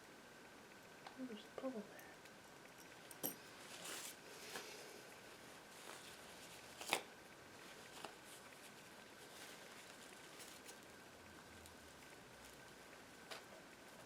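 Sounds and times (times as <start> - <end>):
small clicks and rustles: 1.9 - 14.0.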